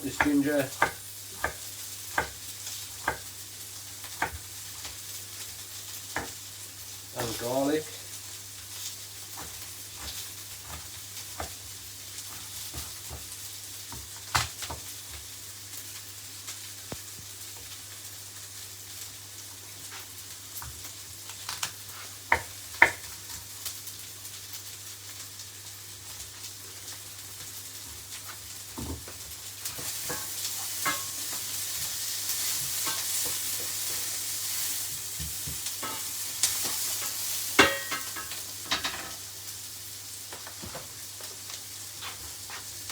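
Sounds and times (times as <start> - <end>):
vegetables sizzling in a pan: 0.0 - 42.9.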